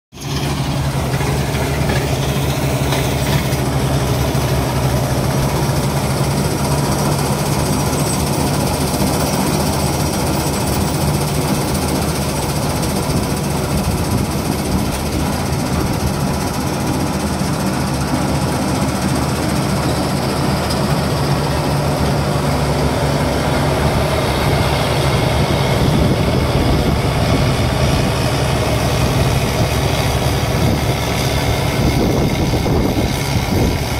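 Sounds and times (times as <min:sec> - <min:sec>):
tractor diesel engine: 0:00.1 - 0:33.9
combine harvester threshing: 0:00.2 - 0:33.9.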